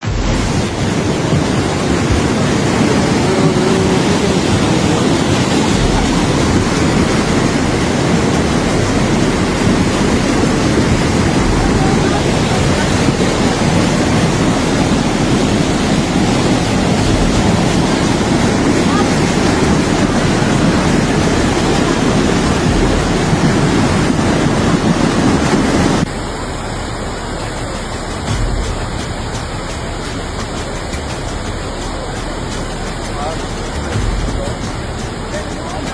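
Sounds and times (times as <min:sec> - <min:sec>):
water rushing in a stream: 0:00.0 - 0:35.9.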